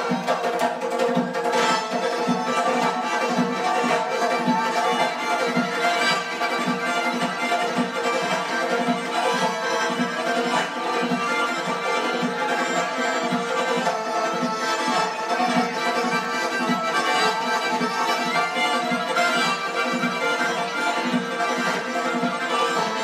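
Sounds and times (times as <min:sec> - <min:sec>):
folk dance music: 0:00.0 - 0:23.0.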